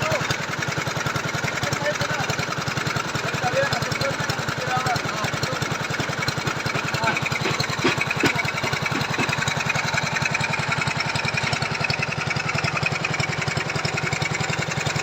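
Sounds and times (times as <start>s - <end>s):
small engine puttering: 0.0s - 15.0s.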